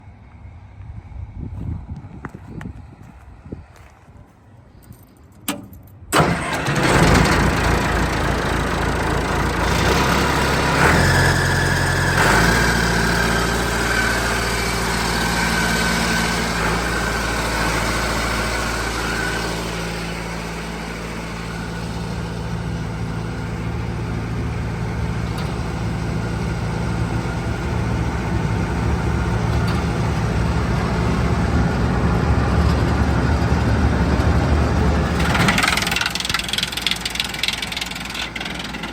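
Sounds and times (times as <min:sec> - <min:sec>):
wood chipper engine running: 0:06.1 - 0:38.9.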